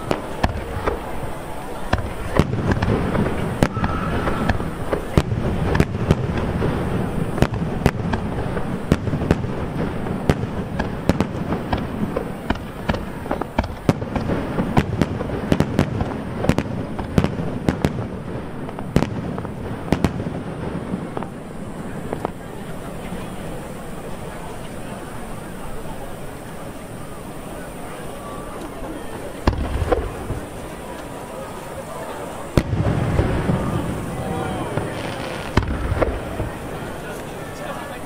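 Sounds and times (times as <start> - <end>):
firework shells bursting: 0.0 - 22.6, 28.5 - 38.0.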